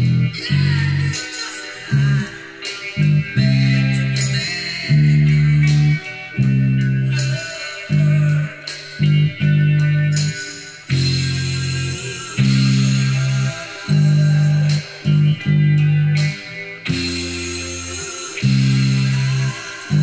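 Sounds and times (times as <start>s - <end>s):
backing track with instruments: 0.0s - 20.0s
electric bass guitar: 0.0s - 20.0s.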